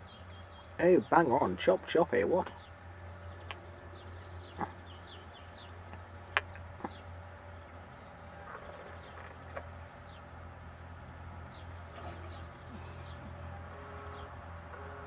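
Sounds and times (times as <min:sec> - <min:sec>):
distant birdsong chirping: 0:00.0 - 0:15.0
steady low hum: 0:00.0 - 0:15.0.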